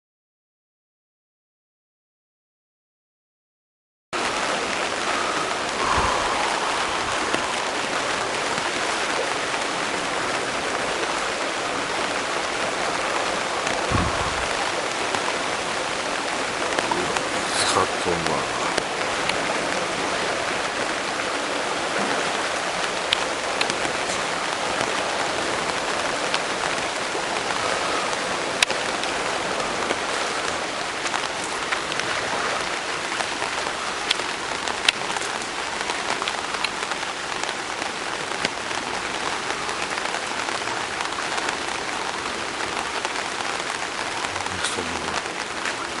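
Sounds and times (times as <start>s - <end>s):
heavy rain falling: 4.2s - 46.0s.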